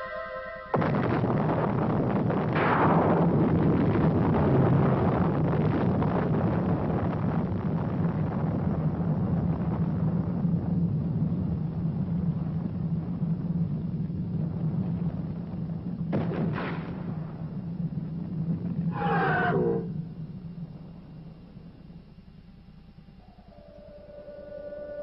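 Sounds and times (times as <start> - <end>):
explosion rumble: 0.7 - 22.4.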